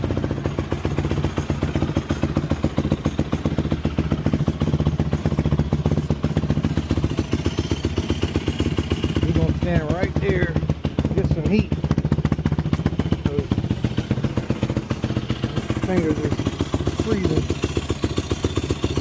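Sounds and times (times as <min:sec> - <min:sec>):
quad engine running: 0:00.0 - 0:19.0.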